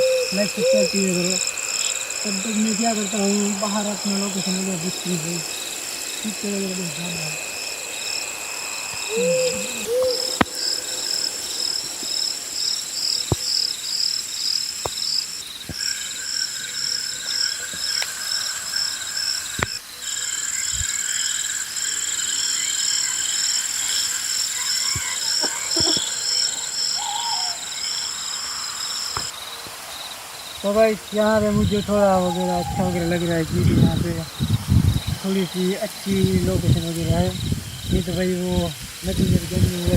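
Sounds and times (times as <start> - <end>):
insects and frogs trilling: 0.0 - 39.9.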